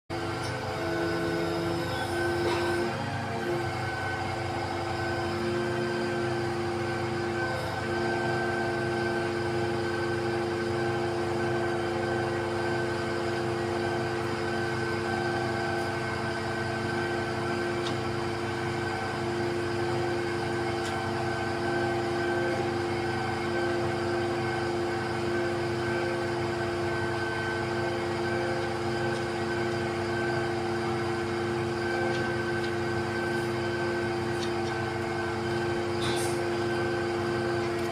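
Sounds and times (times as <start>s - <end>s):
concrete pump engine drone: 0.1s - 37.9s.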